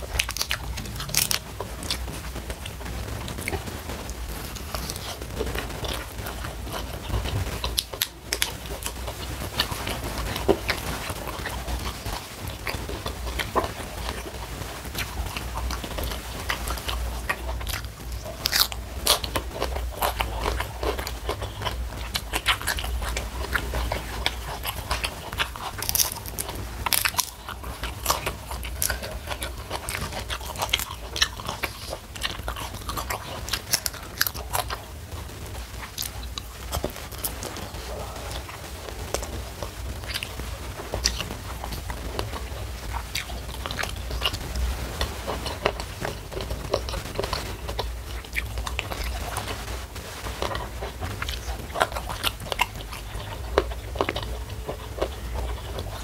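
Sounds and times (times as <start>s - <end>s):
crunchy food chewing: 0.0s - 56.0s.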